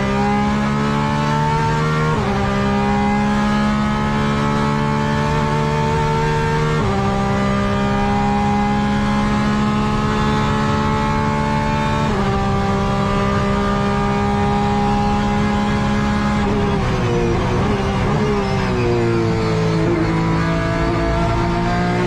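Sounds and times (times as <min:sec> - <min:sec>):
race car engine at full throttle: 0:00.0 - 0:22.0.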